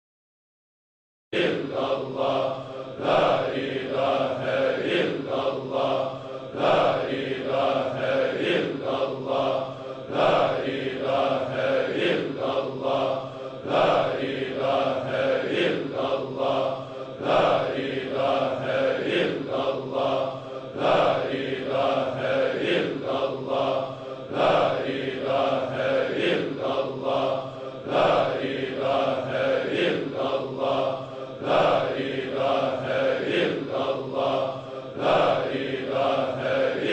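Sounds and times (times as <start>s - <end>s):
rhythmic chanting: 1.4s - 36.9s
steady drone: 1.6s - 36.9s.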